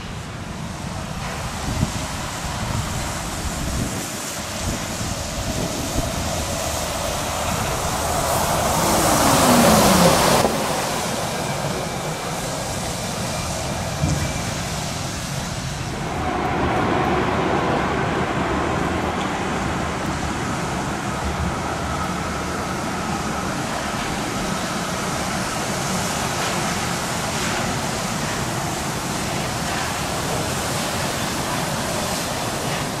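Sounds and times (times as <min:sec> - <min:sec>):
bus engine passing: 0:00.0 - 0:33.0
traffic noise: 0:00.0 - 0:33.0
tyres hissing on wet road: 0:00.0 - 0:33.0.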